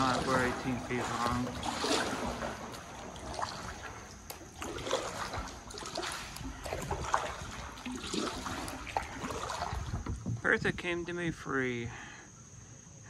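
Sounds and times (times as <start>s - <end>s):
paddle splashing in water: 0.0s - 10.9s
water dripping off paddle: 0.0s - 11.0s.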